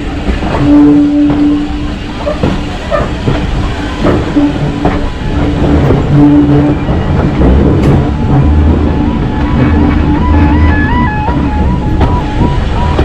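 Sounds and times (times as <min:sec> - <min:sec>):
rails and carriages rattling: 0:00.0 - 0:13.0
train rumbling on track: 0:00.0 - 0:13.0.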